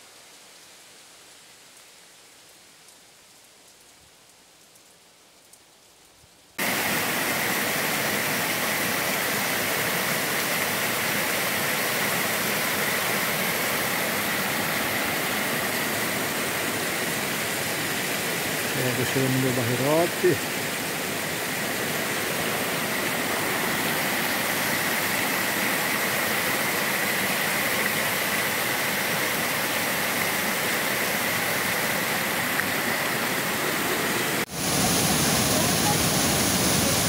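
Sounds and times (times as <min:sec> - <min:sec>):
faint steady hiss: 0:00.0 - 0:37.0
water rushing over spillway: 0:06.6 - 0:37.0.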